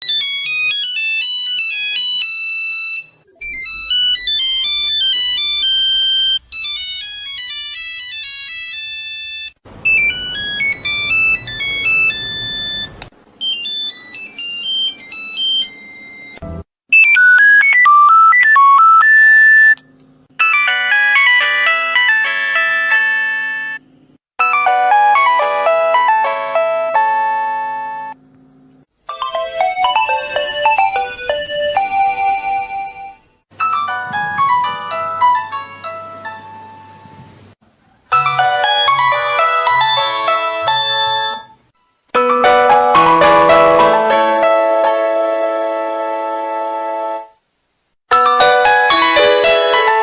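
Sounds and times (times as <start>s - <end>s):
electronic ringtone melodies: 0.0s - 19.8s, 20.4s - 23.8s, 24.4s - 28.2s, 29.1s - 36.9s, 38.1s - 41.6s, 42.2s - 47.3s, 48.1s - 50.0s.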